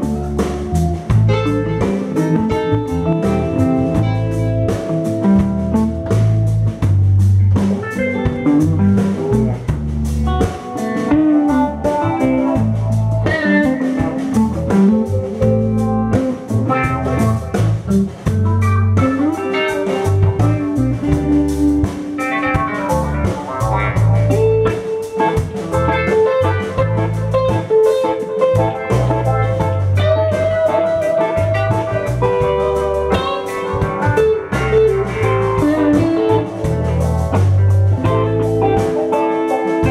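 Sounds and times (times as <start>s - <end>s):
bass notes: 0.0s - 39.9s
drum kit steady beat: 0.0s - 39.9s
electric guitars bending notes: 0.0s - 39.9s
keyboard: 0.0s - 39.9s.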